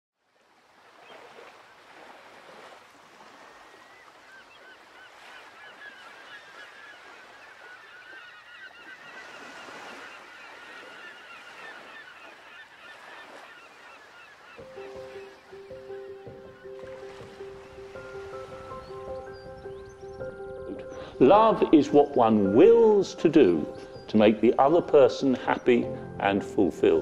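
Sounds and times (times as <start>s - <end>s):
surf washing: 0.4s - 27.0s
flock of birds calling: 3.4s - 25.8s.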